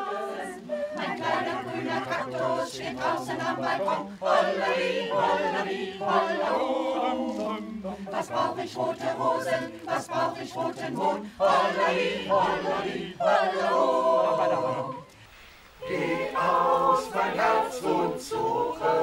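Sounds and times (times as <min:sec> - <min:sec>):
choir singing a cappella: 0:00.0 - 0:19.0.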